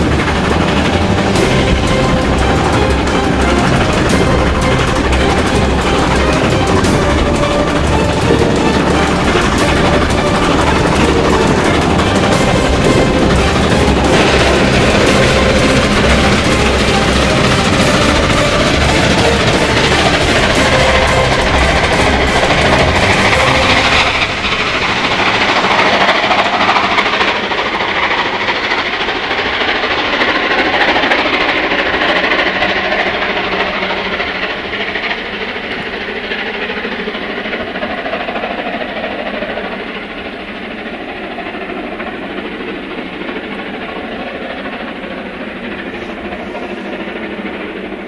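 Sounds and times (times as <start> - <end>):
steam locomotive passing: 0.0 - 48.0.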